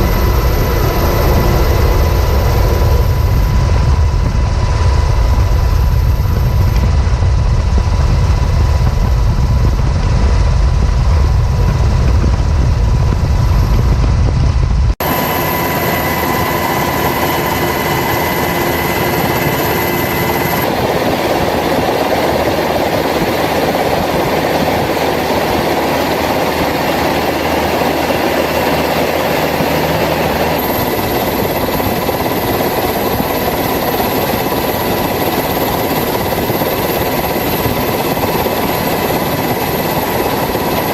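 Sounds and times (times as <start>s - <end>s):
deep rumble: 0.0s - 33.3s
helicopter engine and rotor: 0.0s - 40.9s
high whine: 0.0s - 40.9s.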